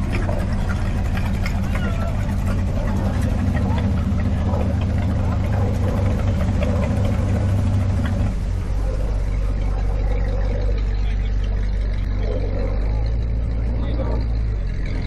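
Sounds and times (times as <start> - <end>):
car engine running: 0.0 - 15.0
faint voices: 0.0 - 15.0.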